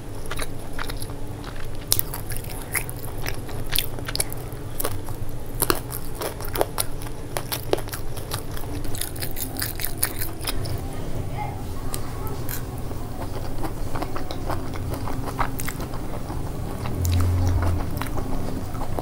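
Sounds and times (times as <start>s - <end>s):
crunchy chewing: 0.0s - 10.9s, 11.8s - 19.0s
low steady hum: 0.0s - 19.0s.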